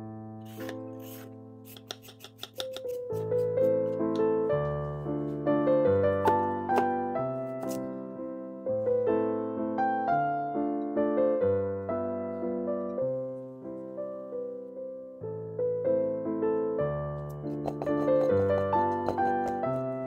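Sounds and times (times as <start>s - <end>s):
slow piano music: 0.0s - 1.7s, 2.6s - 20.0s.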